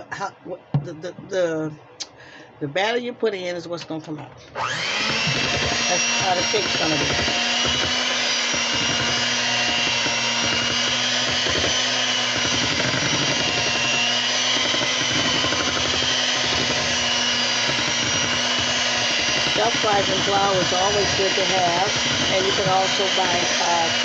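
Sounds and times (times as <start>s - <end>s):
electric hand mixer whining: 4.5s - 24.0s.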